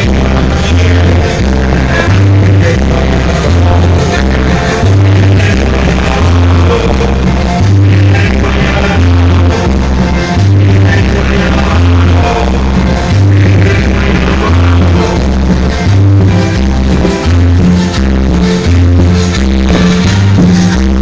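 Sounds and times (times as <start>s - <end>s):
loud music with heavy bass: 0.0s - 21.0s
person singing: 0.0s - 21.0s.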